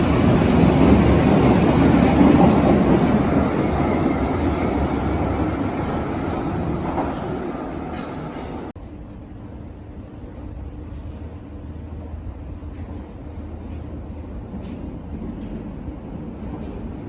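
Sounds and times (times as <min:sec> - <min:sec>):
subway train rumbling on track: 0:00.0 - 0:17.0.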